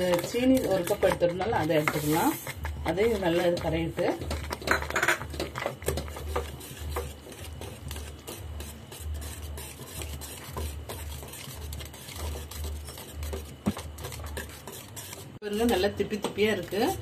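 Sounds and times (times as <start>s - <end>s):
utensil scraping a pan: 0.0s - 17.0s
utensil swishing in a saucepan: 0.0s - 17.0s.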